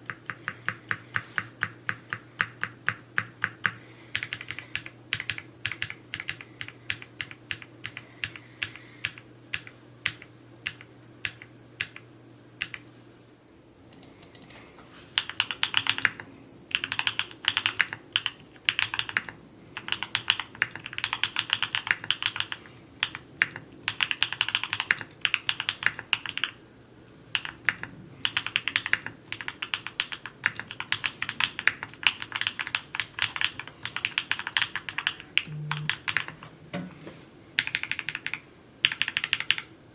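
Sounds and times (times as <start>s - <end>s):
mechanical keyboard typing: 0.0s - 12.0s, 12.6s - 12.8s, 15.2s - 26.6s, 27.3s - 36.4s, 37.6s - 39.7s.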